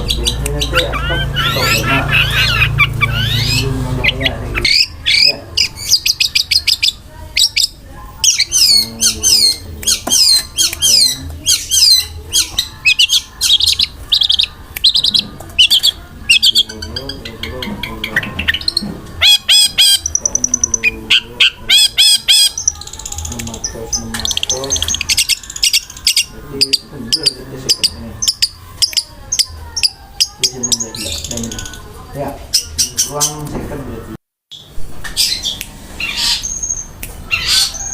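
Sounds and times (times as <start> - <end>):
bird singing fast song: 0.0 - 31.8.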